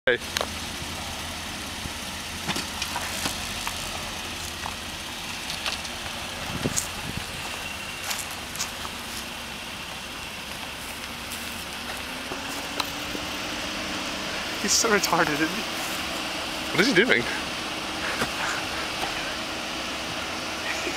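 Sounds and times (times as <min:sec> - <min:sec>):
car engine at low revs: 0:00.1 - 0:20.9.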